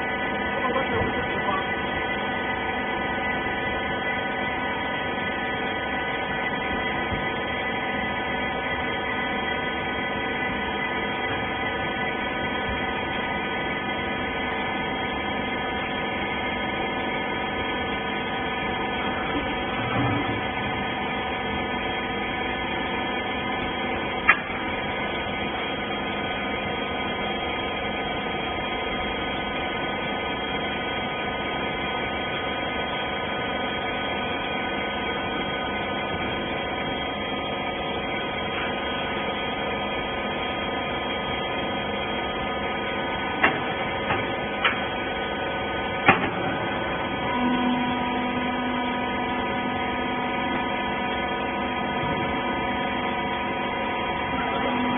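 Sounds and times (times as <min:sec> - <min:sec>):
hydraulic power unit humming: 0:00.0 - 0:54.9.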